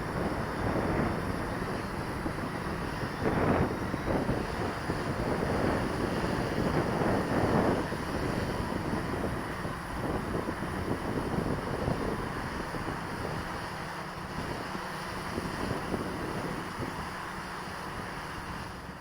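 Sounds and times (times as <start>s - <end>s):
wind gusting across microphone: 0.0s - 19.0s.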